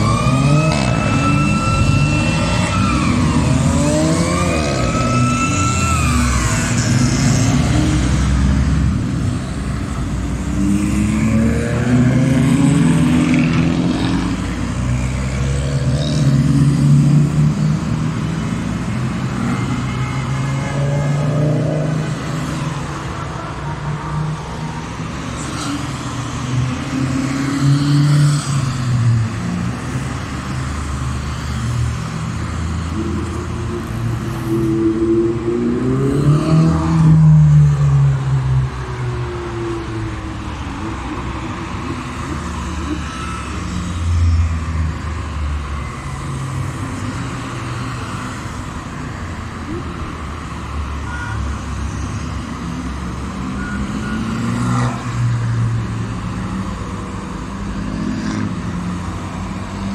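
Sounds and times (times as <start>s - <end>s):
cars revving and changing gear: 0.0s - 59.9s.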